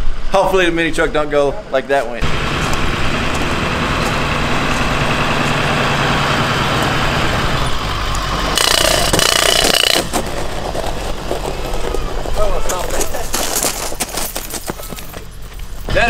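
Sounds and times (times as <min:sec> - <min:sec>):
pickup truck engine running: 0:02.2 - 0:16.0.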